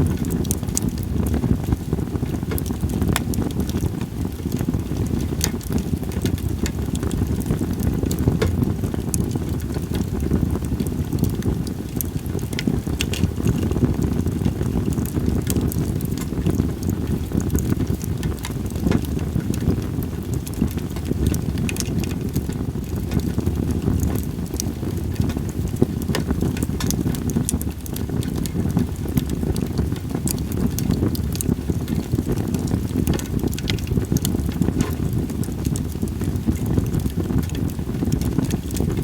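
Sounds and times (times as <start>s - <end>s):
campfire crackling and popping: 0.0s - 39.0s
fire low rumble: 0.0s - 39.0s.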